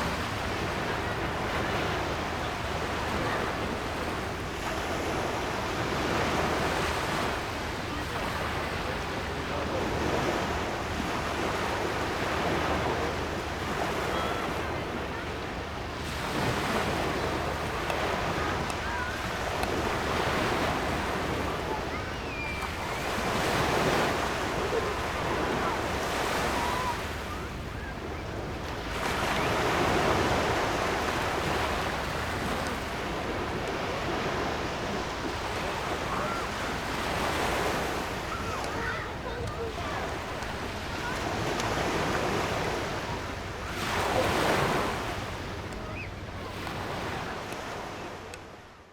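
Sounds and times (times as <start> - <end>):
faint voices: 0.0 - 48.6
surf washing on shore: 0.0 - 48.9
wind: 0.0 - 48.9.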